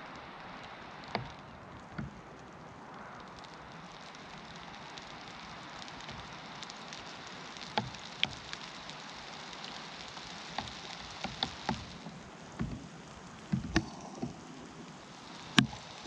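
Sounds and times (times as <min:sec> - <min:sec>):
heavy raindrops tapping: 0:00.0 - 0:16.0
rain falling steadily: 0:00.0 - 0:16.0.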